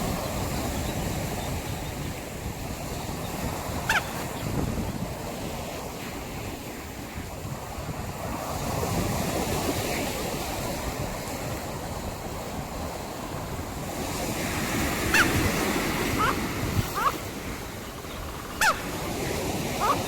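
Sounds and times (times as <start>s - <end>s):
waves breaking on a beach: 0.0s - 20.0s.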